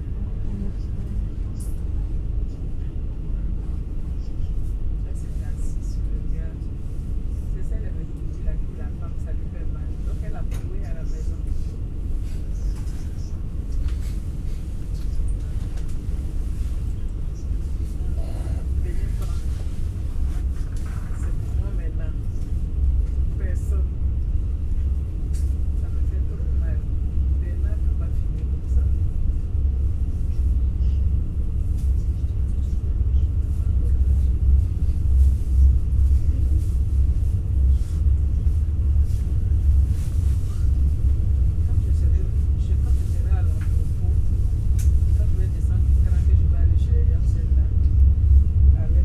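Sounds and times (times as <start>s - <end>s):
electric train rumble inside coach: 0.0s - 49.0s.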